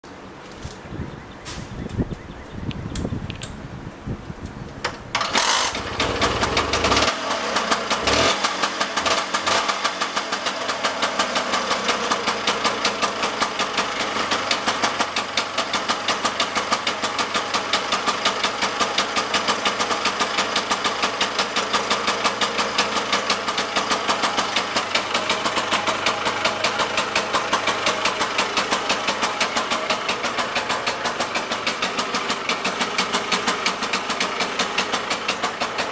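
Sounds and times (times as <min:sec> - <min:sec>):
scooter engine starting and idling: 0:04.6 - 0:35.9.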